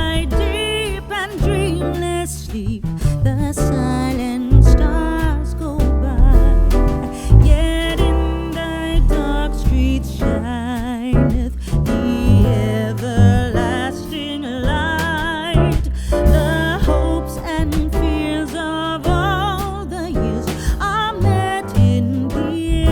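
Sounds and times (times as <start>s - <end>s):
song with singing and guitar: 0.0s - 22.9s.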